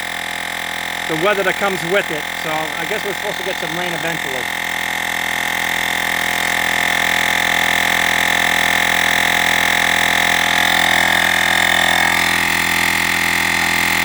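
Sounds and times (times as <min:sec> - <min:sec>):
air compressor whining: 0:00.0 - 0:14.0.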